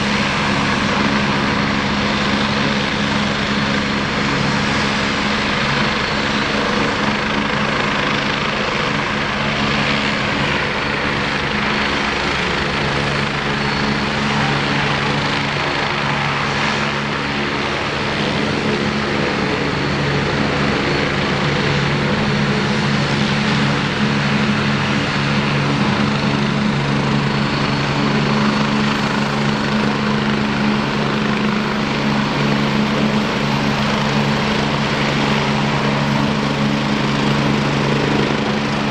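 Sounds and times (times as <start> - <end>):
helicopter droning: 0.0 - 38.9.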